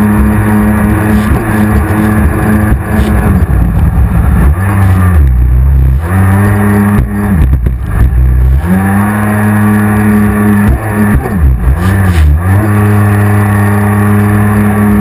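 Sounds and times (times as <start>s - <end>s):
jet ski engine revving: 0.0s - 15.0s.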